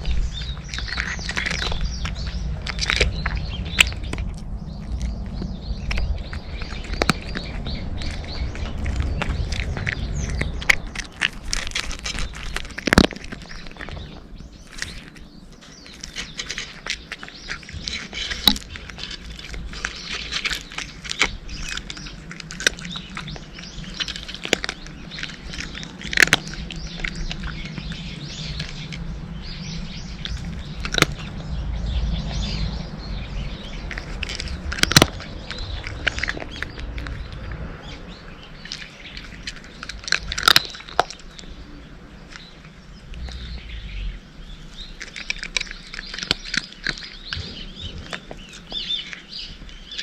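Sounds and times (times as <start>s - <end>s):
cats crunching dry kibble: 0.0s - 50.0s.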